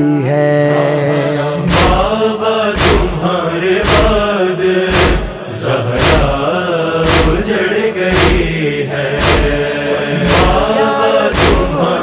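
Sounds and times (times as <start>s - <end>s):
humming backing chorus: 0.0s - 12.0s
man chanting a lament: 0.0s - 12.0s
heavy rhythmic thump: 1.6s - 12.0s.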